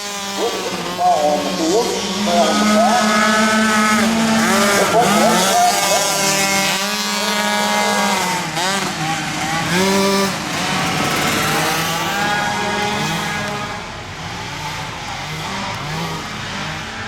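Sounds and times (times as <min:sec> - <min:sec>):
race engines revving: 0:00.0 - 0:17.0.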